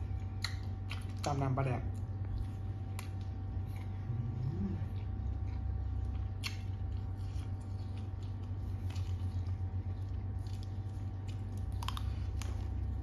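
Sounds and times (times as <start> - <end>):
close chewing: 0.1 - 13.0.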